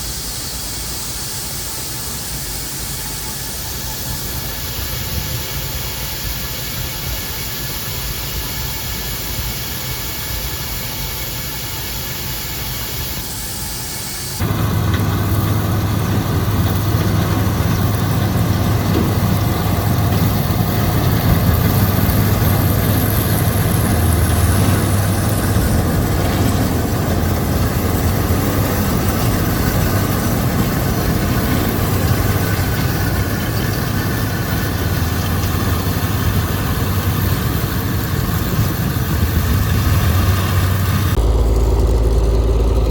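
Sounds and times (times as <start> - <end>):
combine engine and machinery running: 0.0 - 42.9.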